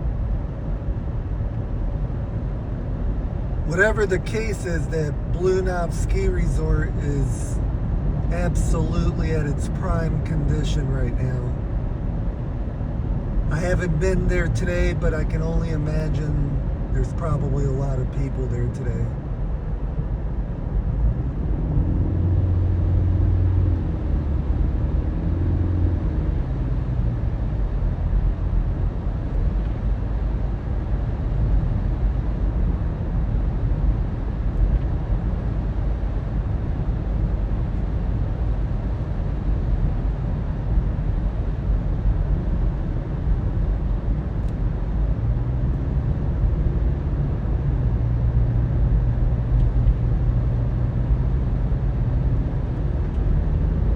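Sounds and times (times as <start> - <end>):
car engine hum: 0.0 - 53.9
low road rumble: 0.0 - 53.9.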